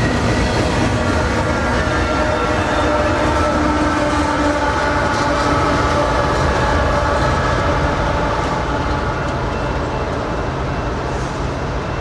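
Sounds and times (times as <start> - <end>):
diesel locomotive engine drone: 0.0 - 12.0
wheels rumbling on rail: 0.0 - 12.0.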